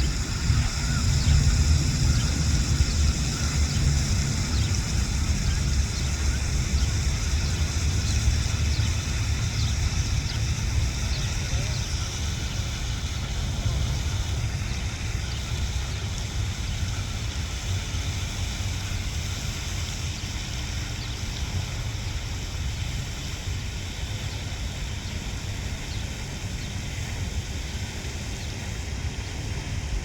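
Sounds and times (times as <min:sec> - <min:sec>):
background hiss: 0:00.0 - 0:30.0
wind buffeting microphone: 0:00.0 - 0:30.0.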